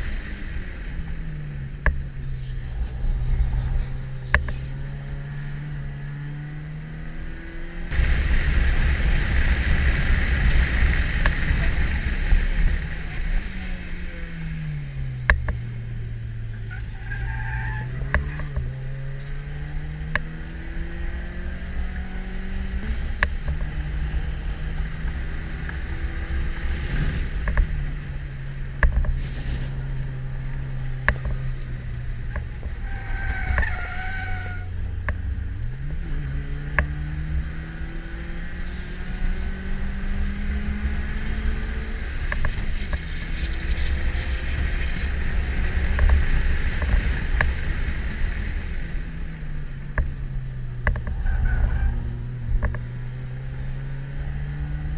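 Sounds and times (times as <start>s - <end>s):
car engine revving: 0.0s - 54.9s
tyre and road noise: 0.0s - 54.9s.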